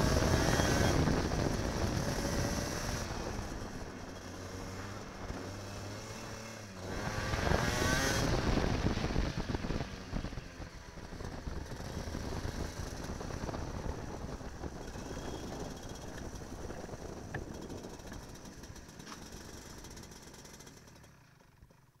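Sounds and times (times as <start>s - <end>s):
kart engine running: 0.0s - 22.0s.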